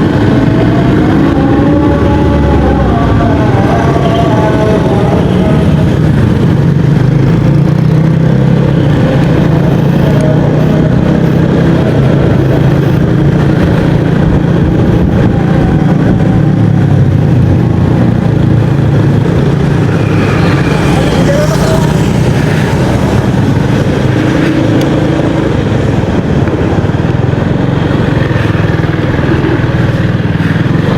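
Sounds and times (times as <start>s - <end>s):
scooter engine humming: 0.0s - 30.9s.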